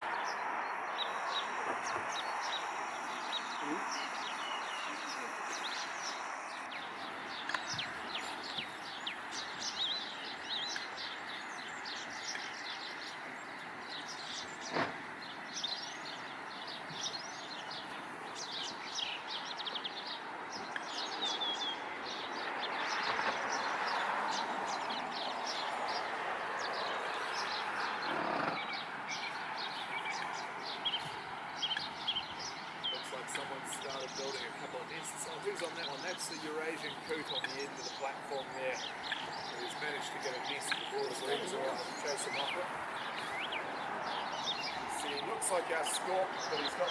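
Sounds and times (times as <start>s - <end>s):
small birds chirping: 0.0s - 46.9s
steady outdoor rush: 0.0s - 46.9s.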